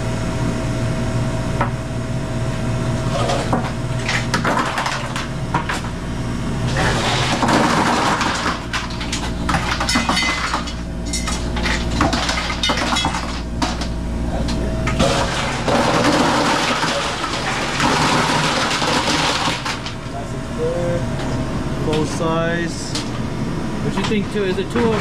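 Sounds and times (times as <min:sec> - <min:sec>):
ice machine humming: 0:00.0 - 0:25.0.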